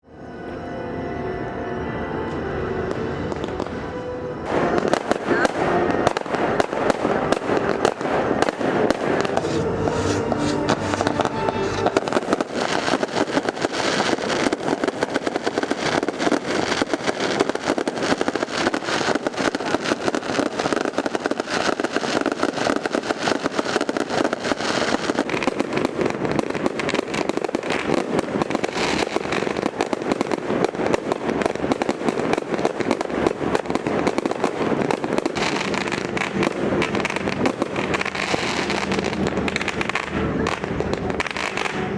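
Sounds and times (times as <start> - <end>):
fireworks crackling: 2.8 - 41.9.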